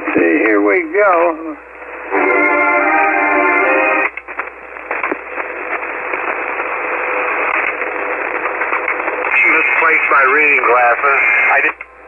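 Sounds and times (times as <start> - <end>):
radio receiver hiss: 0.0 - 12.0.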